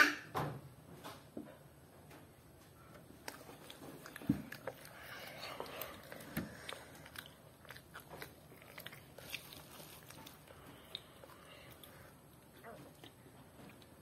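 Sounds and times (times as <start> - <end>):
person chewing fruit: 2.7 - 14.0.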